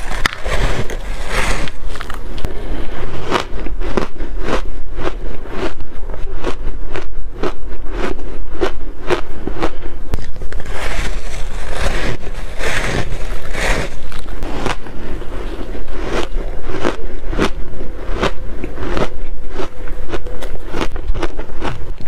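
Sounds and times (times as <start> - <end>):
crunching shaved ice: 0.0 - 22.0.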